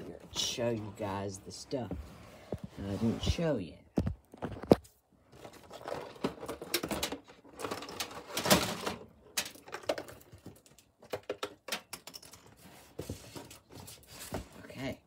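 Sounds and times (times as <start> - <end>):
objects being handled: 0.0 - 14.7.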